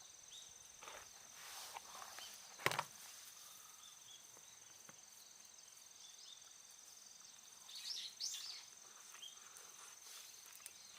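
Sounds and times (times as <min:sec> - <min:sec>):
insects trilling: 0:00.0 - 0:10.9.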